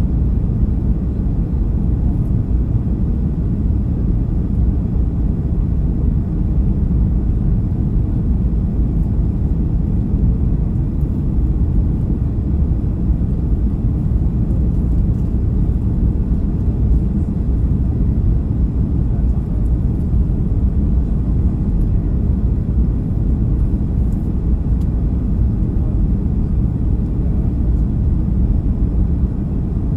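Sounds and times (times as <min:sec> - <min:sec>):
airplane cabin rumble: 0:00.0 - 0:29.9.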